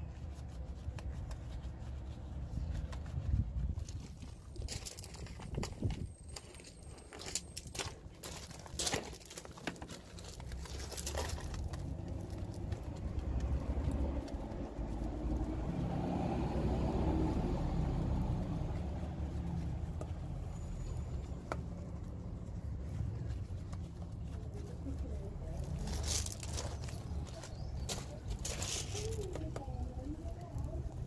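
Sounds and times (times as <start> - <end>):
brush scrubbing wet wheel: 0.0 - 5.2, 6.7 - 31.0.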